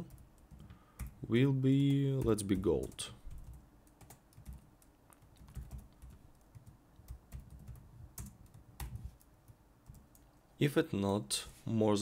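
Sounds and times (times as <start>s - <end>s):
computer keyboard typing: 0.0s - 10.3s.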